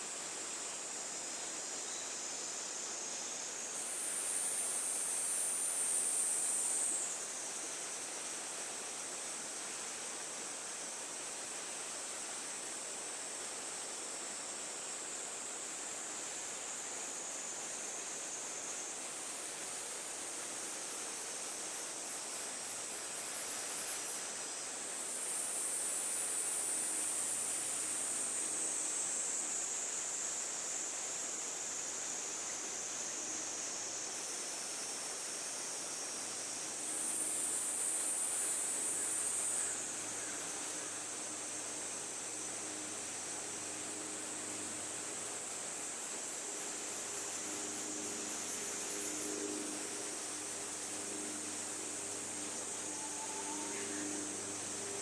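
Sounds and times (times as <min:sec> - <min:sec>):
high-pitched insect chorus: 0:00.0 - 0:55.0
soft hiss: 0:00.0 - 0:55.0.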